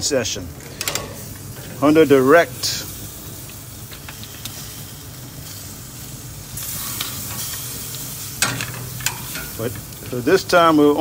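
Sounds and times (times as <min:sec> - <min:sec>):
lobster sizzling on a grill: 0:00.7 - 0:11.0.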